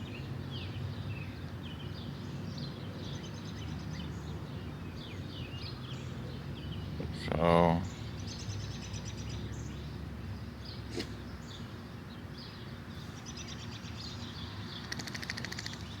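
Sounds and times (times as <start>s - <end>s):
birds chirping: 0.0s - 16.0s
low outdoor background noise: 0.0s - 16.0s.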